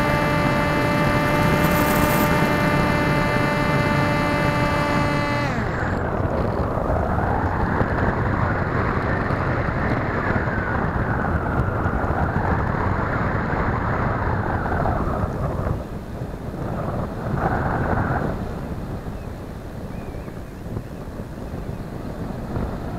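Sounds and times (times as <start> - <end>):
electric motor and propeller whine: 0.0 - 22.9
wind rush: 0.0 - 22.9.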